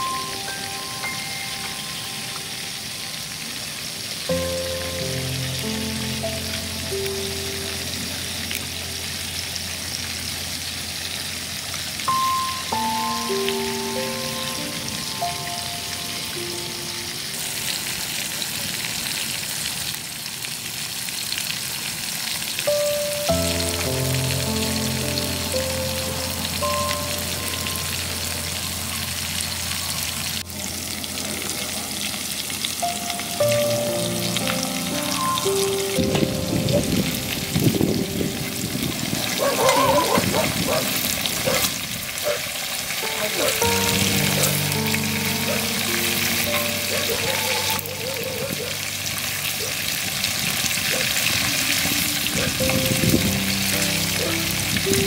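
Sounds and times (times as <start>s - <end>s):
soft background music: 0.0s - 18.1s, 22.6s - 31.9s, 32.5s - 40.8s, 42.2s - 55.0s
ribs sizzling in oil: 0.0s - 55.0s.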